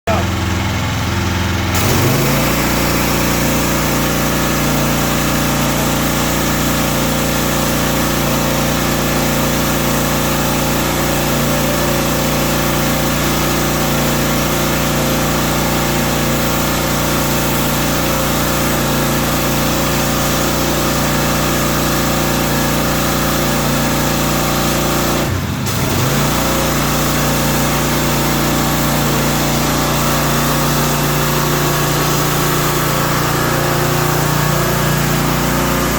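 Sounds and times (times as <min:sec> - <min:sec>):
pressure washer engine running: 0:00.0 - 0:35.9
water spray hiss: 0:01.7 - 0:35.9.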